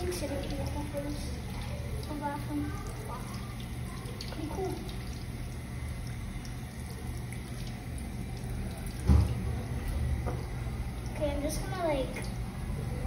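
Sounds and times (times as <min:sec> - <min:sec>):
faucet water running into sink: 0:00.0 - 0:12.4.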